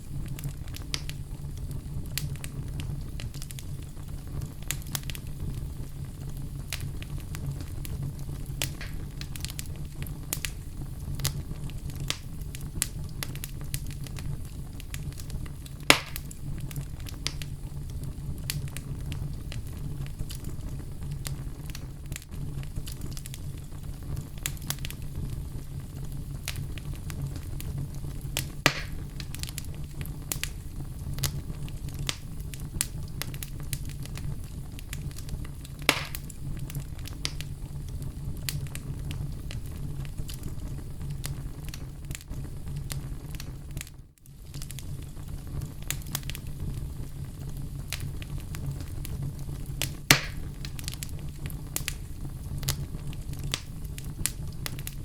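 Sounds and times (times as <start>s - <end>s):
fire crackling: 0.0s - 55.0s
fire rumbling in fireplace: 0.0s - 55.0s
loud pops from fire: 0.0s - 55.0s.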